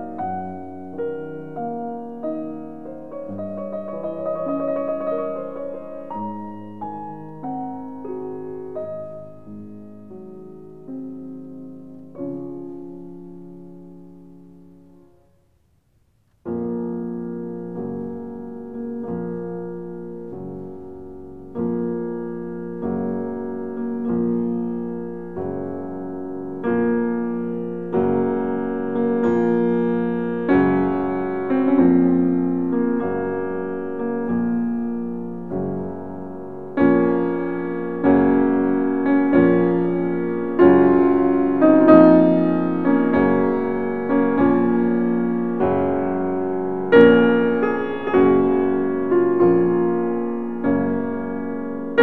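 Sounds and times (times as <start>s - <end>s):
slow gentle piano music: 0.0s - 52.0s.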